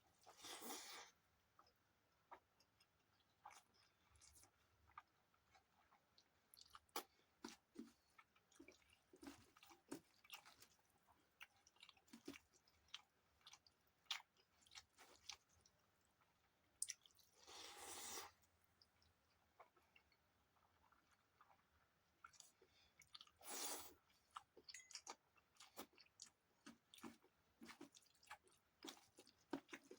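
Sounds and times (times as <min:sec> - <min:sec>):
chewing and mouth smacks: 0:01.6 - 0:17.5, 0:18.8 - 0:29.9.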